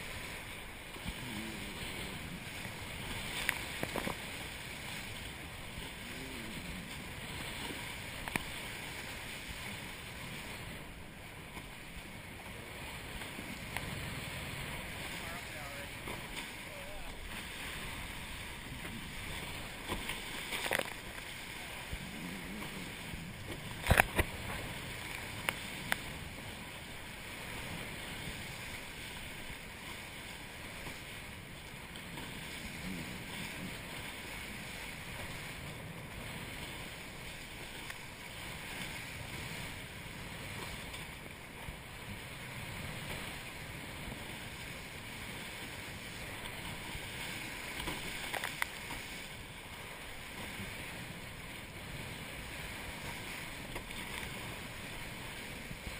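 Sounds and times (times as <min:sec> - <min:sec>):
water rushing along hulls: 0:00.0 - 0:55.9
water slapping against boat: 0:00.0 - 0:55.9.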